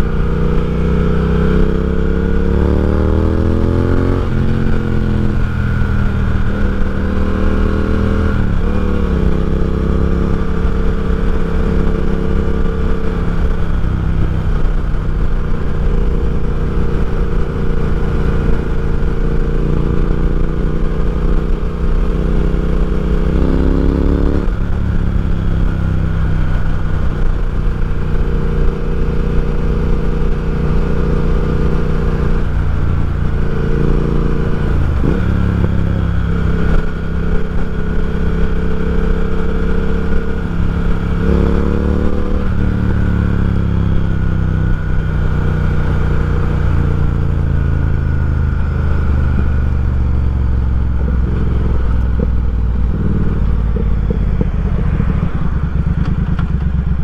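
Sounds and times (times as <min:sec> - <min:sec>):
motorcycle engine exhaust: 0:00.0 - 0:57.0.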